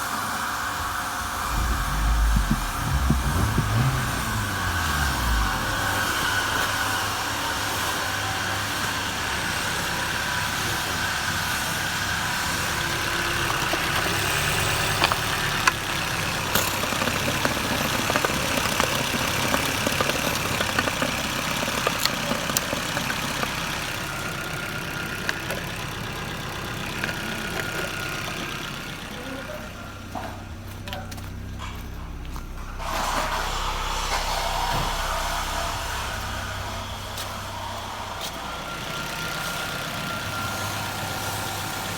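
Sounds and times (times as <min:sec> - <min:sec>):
car engine idling: 0:00.6 - 0:41.9.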